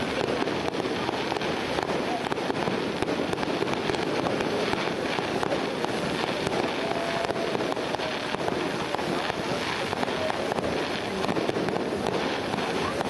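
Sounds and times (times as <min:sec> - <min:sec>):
fireworks crackling: 0:00.0 - 0:13.0
sharp firework cracks: 0:00.0 - 0:13.0.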